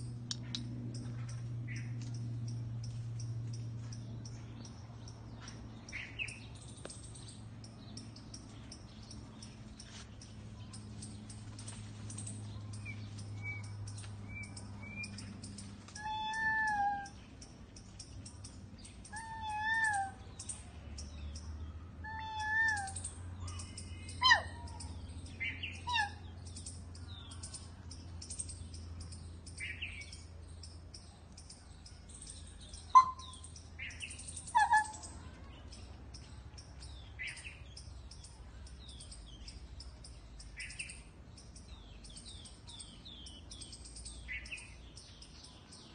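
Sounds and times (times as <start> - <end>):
birds chirping and twittering: 0.0 - 45.9.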